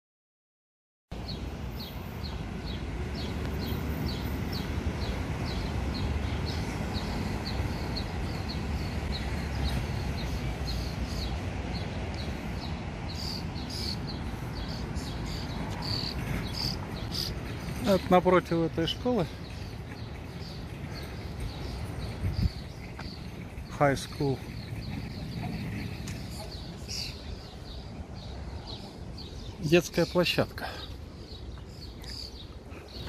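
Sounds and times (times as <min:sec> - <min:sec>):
low traffic rumble: 0:01.1 - 0:33.0.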